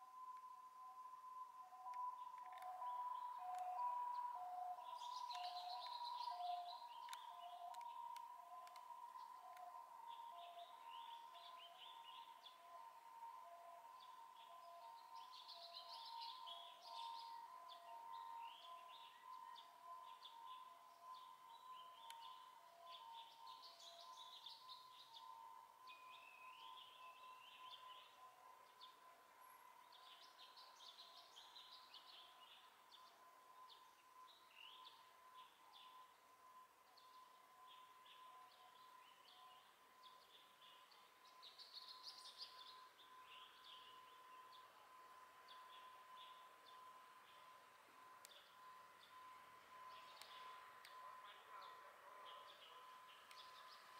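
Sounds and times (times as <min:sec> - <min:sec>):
small birds chirping: 0:02.0 - 0:29.1, 0:29.8 - 0:36.1, 0:36.9 - 0:44.7, 0:48.3 - 0:53.9.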